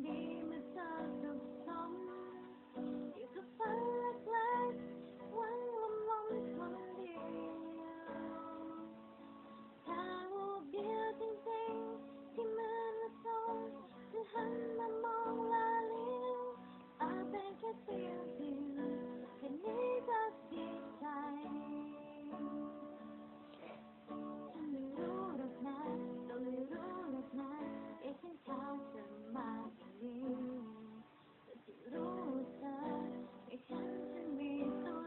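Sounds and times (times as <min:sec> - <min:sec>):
woman singing a ballad: 0:00.0 - 0:23.2, 0:24.4 - 0:35.0
strummed acoustic guitar: 0:00.0 - 0:35.0.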